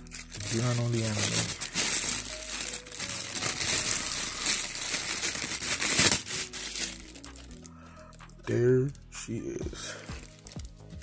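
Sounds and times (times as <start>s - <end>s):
plastic bag crinkling: 0.0s - 8.6s, 10.2s - 11.0s.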